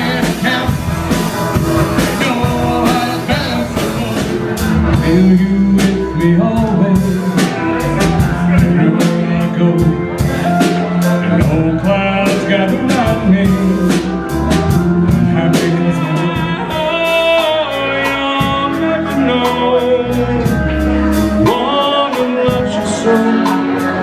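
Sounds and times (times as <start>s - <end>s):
drum kit beat: 0.0s - 24.0s
rock band playing instrumental: 0.0s - 24.0s.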